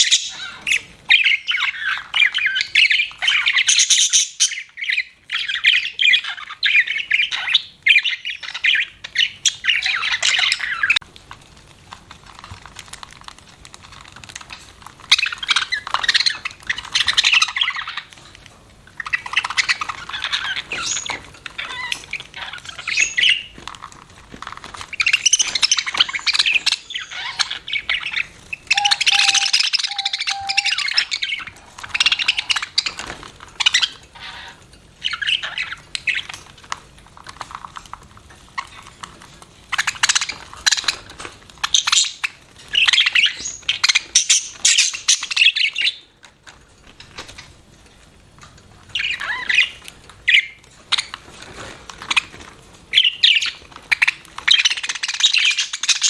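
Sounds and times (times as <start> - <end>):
budgerigars chirping and chattering: 0.0 - 11.0, 14.1 - 23.7, 24.6 - 46.4, 48.8 - 56.0.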